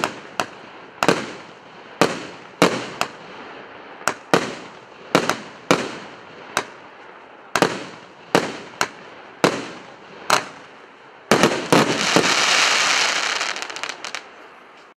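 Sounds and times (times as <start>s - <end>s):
firework shots banging: 0.0s - 3.2s, 4.0s - 6.8s, 7.6s - 10.7s, 11.3s - 14.3s
firework salvo crackling hiss: 0.0s - 14.4s.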